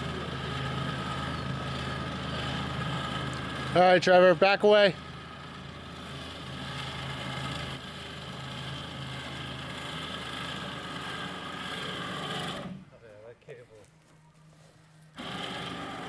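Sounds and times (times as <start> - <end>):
engine running: 0.0 - 13.0, 15.0 - 16.0.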